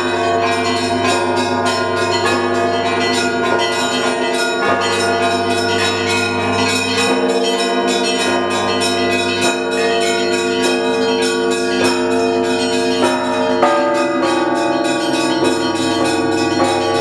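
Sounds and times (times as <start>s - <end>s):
deep bells ringing: 0.0s - 17.0s
small bells struck quickly: 0.0s - 17.0s.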